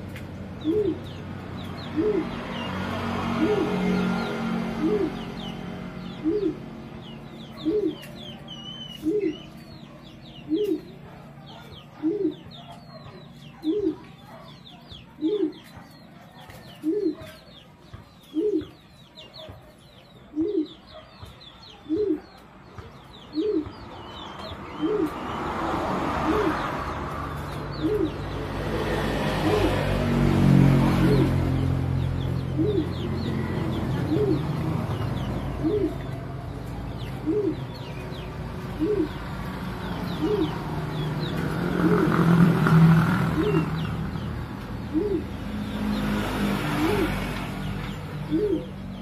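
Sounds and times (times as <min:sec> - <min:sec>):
pigeon cooing: 0:00.0 - 0:49.0
small birds chirping: 0:00.0 - 0:49.0.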